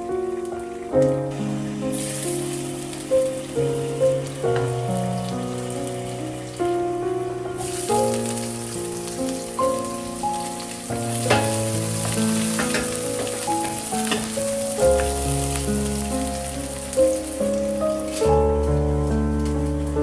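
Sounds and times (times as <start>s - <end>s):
background music with held notes: 0.0s - 20.0s
food sizzling in a pan: 0.0s - 20.0s.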